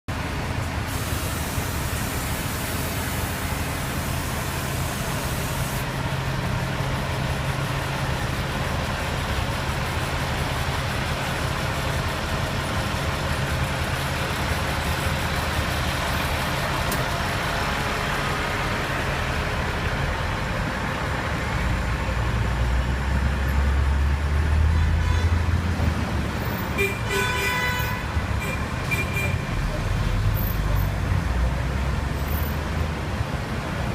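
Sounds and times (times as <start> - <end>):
heavy vehicle engine droning: 0.1 - 33.9
street traffic noise: 0.1 - 33.9.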